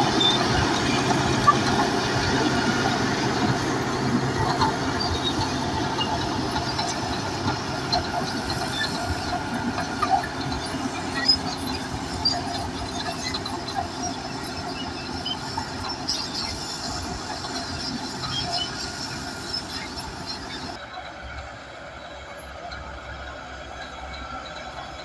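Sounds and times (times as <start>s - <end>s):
bulldozer engine running: 0.0s - 25.0s
steel tracks clattering: 0.0s - 25.0s
track links squeaking: 0.0s - 25.0s.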